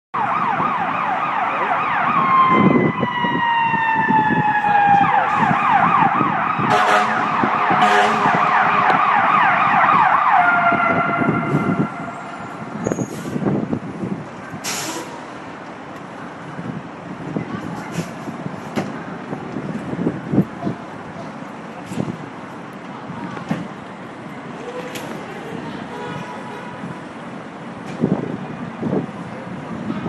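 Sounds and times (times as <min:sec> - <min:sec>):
emergency vehicle sirens: 0:00.2 - 0:25.9.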